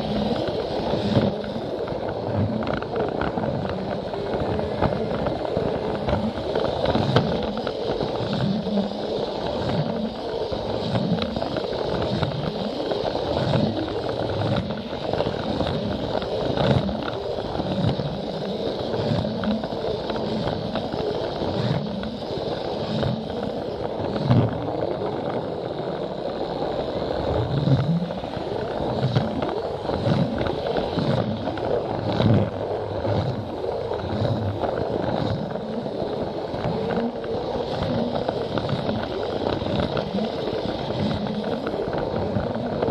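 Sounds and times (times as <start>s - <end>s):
toy train motor whine: 0.0s - 42.9s.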